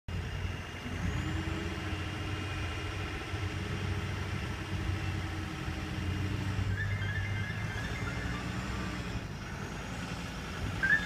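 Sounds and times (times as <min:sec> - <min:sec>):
diesel engine running at a low hum: 0:00.1 - 0:11.0.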